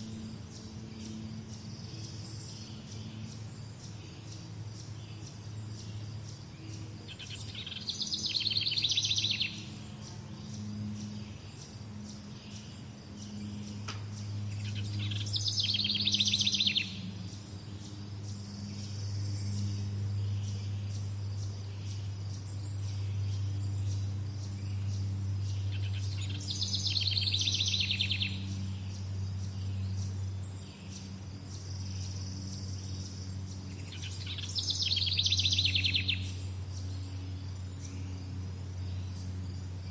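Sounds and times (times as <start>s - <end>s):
songbird trilling: 0.0s - 39.9s
steady low hum: 0.0s - 39.9s.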